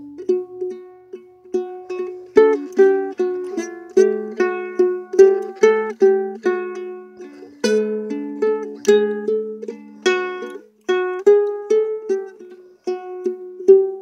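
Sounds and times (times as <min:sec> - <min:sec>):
ukulele plucked melody: 0:00.0 - 0:14.0.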